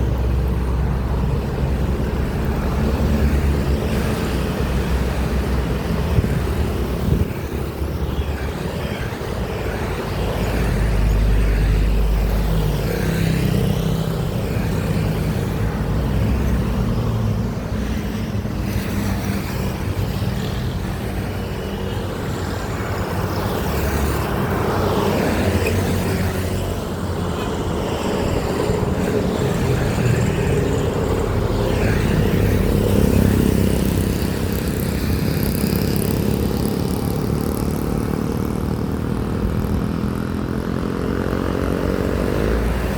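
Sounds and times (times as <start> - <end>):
truck engines passing: 0.0 - 42.9
tyre and road noise: 0.0 - 42.9.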